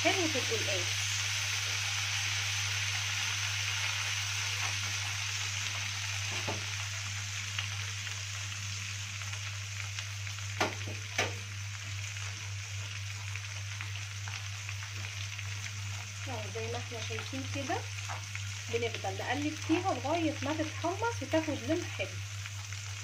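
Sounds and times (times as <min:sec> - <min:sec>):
greens sizzling in a pan: 0:00.0 - 0:23.0.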